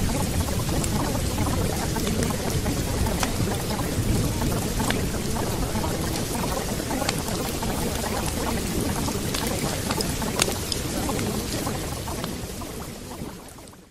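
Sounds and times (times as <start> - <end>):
rain drop ticks: 0.0 - 13.9
steady rain hiss: 0.0 - 13.9.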